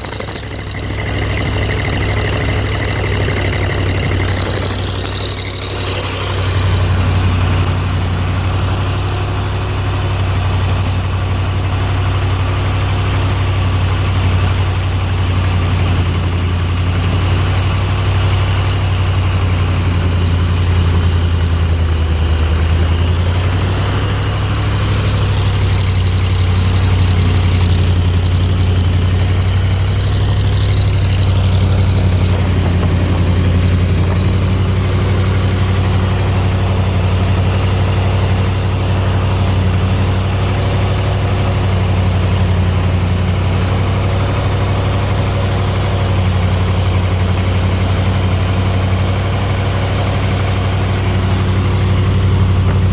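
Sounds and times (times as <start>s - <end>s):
air compressor engine running: 0.0s - 52.9s.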